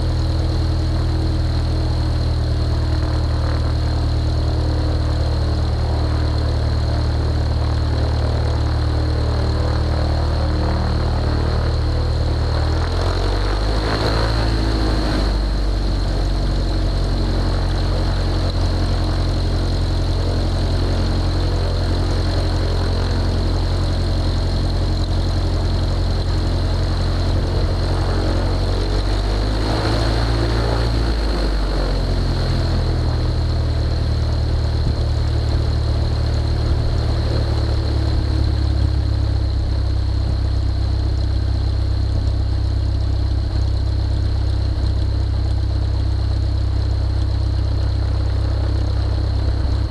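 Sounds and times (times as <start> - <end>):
light aircraft engine idling: 0.0 - 49.9.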